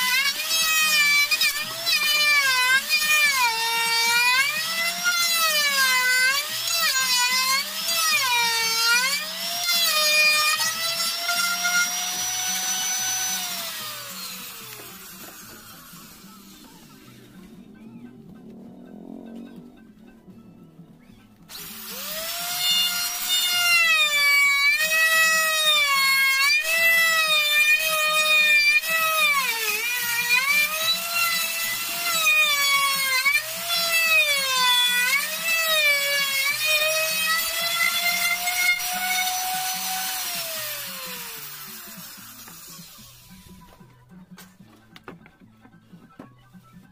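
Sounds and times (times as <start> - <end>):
electric wood router whining: 0.0 - 19.8, 21.4 - 43.8.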